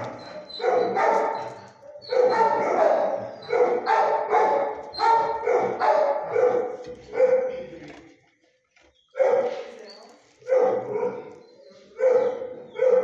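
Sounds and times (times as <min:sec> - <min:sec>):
dogs barking: 0:00.0 - 0:07.7, 0:09.1 - 0:09.8, 0:10.4 - 0:13.0.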